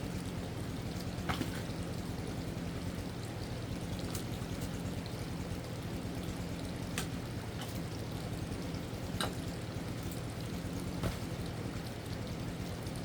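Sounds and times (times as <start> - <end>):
flowing water: 0.0 - 13.0
low steady hum: 0.0 - 13.0.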